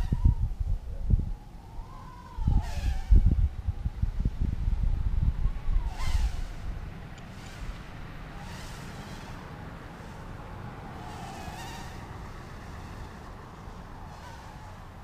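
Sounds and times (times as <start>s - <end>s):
quadcopter motors buzzing: 0.0s - 15.0s.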